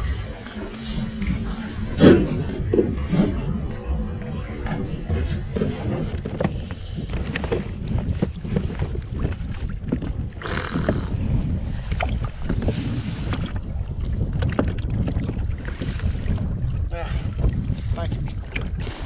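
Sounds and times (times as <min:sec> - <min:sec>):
wind buffeting microphone: 0:00.0 - 0:19.0
water slapping against hull: 0:00.1 - 0:19.0.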